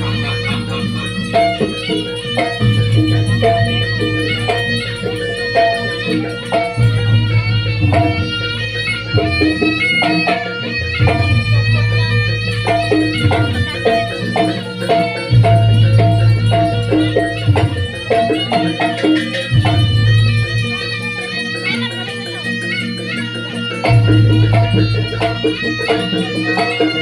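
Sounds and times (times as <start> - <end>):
hand drums: 0.0 - 27.0.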